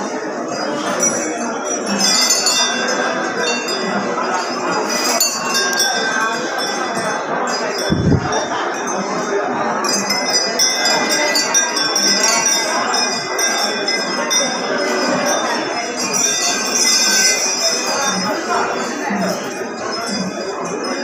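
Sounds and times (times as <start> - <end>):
small metal bells jingling: 0.1 - 21.0.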